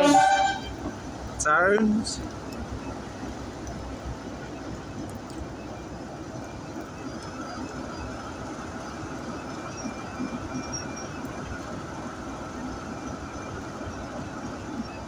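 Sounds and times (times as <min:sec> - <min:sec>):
diesel locomotive engine running: 0:00.0 - 0:15.0
train rumbling on track: 0:00.0 - 0:15.0.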